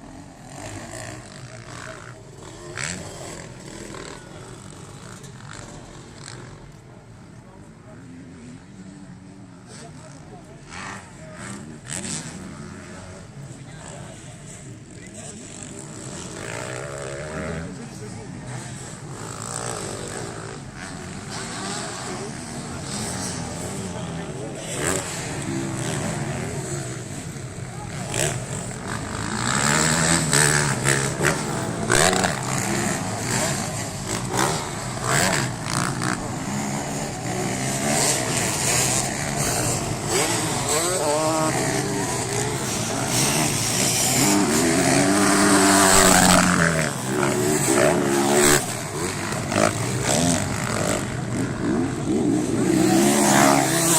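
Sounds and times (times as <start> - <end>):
motocross engines revving: 0.0 - 53.9.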